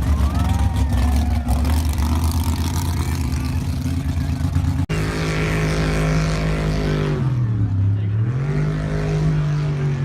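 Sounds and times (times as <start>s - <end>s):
truck engine under throttle: 0.0s - 10.0s.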